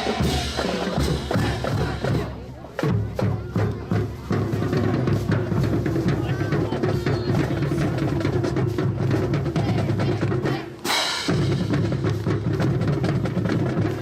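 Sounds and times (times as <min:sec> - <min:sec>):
bass drums: 0:00.0 - 0:14.0
marching band playing: 0:00.0 - 0:14.0
snare drums: 0:00.0 - 0:14.0.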